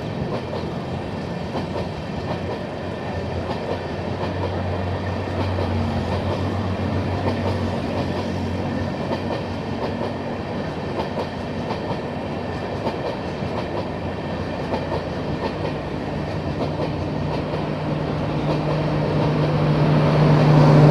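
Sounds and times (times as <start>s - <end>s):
train wheels clicking over rail joints: 0.0s - 19.6s
train rumbling: 0.0s - 20.9s.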